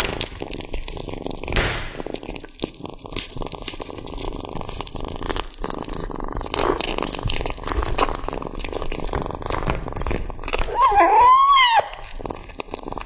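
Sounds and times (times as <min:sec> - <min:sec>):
cat chewing raw meat: 0:00.0 - 0:13.0.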